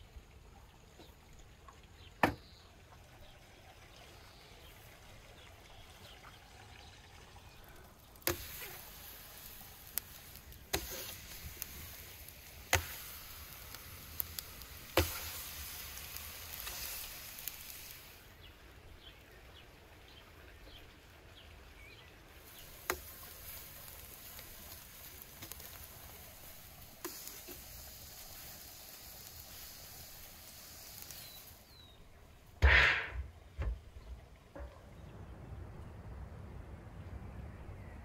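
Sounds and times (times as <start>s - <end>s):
faint meat sizzle: 0.0s - 21.0s, 21.8s - 32.4s.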